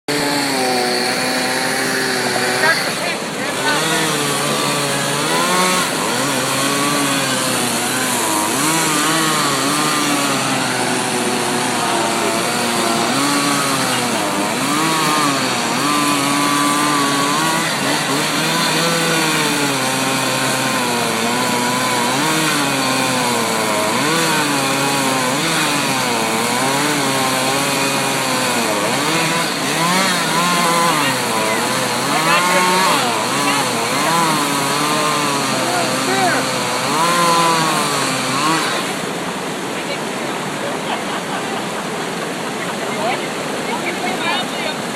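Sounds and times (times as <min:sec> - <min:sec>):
chainsaw cutting wood: 0:00.1 - 0:44.9.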